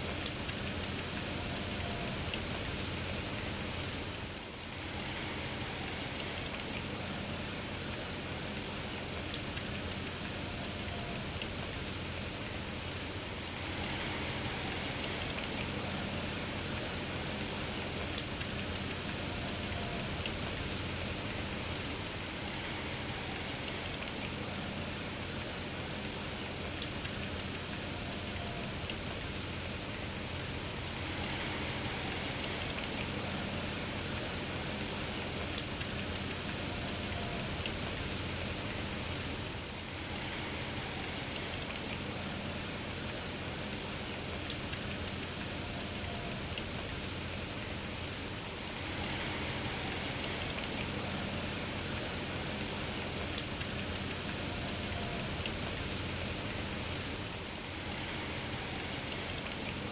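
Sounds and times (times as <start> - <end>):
sharp raindrops: 0.0 - 59.9
steady rain falling: 0.0 - 59.9.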